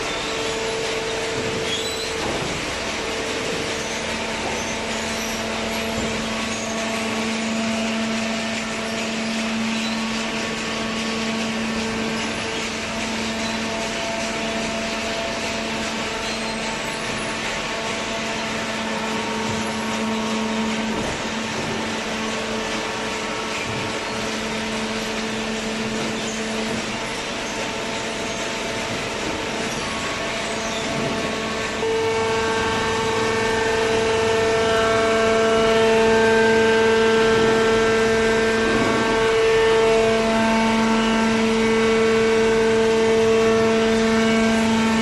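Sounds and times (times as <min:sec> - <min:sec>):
hydraulic power unit humming: 0:00.0 - 0:45.0.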